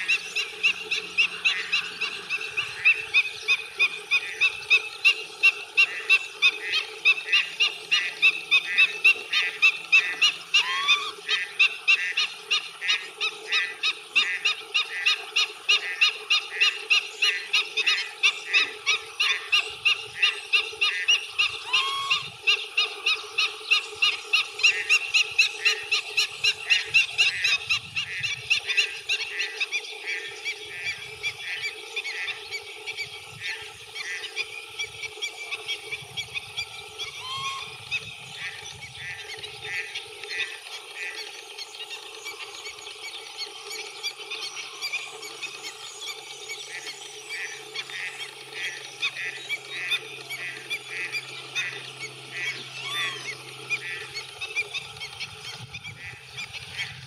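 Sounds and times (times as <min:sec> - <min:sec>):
wading bird calling sharp notes: 0:00.0 - 0:57.0.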